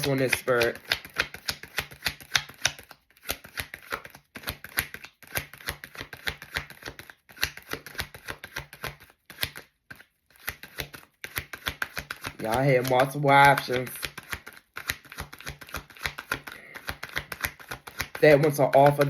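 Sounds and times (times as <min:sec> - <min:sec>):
cards being shuffled by hand: 0:00.0 - 0:19.0.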